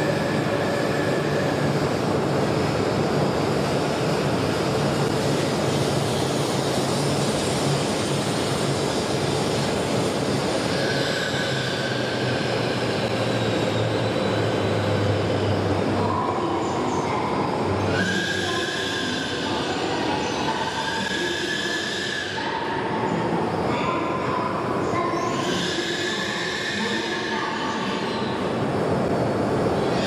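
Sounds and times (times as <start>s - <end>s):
train rumble and hum: 0.0s - 30.0s.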